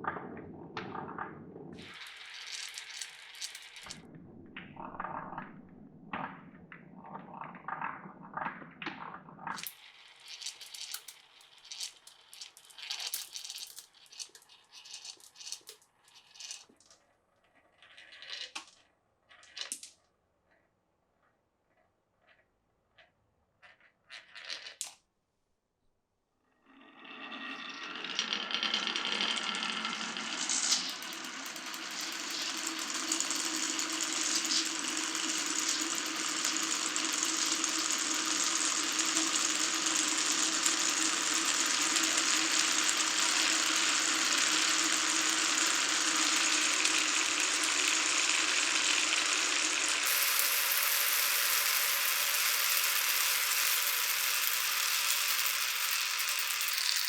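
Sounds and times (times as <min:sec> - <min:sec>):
glass marbles rattling on wooden tracks: 0:00.8 - 0:04.0, 0:07.2 - 0:20.6, 0:23.0 - 0:25.0, 0:27.3 - 0:57.0.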